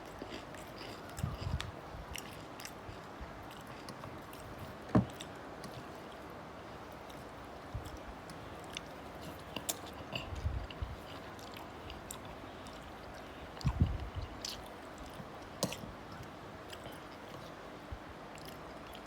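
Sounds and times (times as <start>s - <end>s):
person chewing food: 0.0s - 6.3s, 6.9s - 17.6s.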